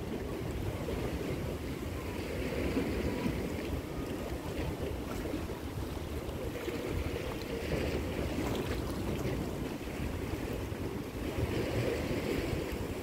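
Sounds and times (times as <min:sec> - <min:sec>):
wind and sea water rushing: 0:00.0 - 0:13.0
wind rumbling on microphone: 0:00.0 - 0:13.0.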